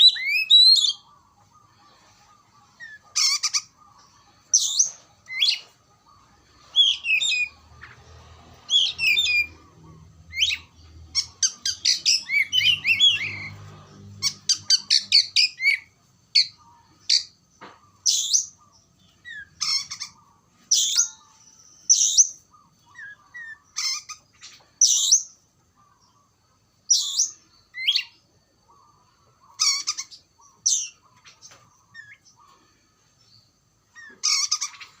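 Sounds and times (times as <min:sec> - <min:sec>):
bird singing sweeping notes: 0:00.0 - 0:17.4, 0:18.0 - 0:35.0.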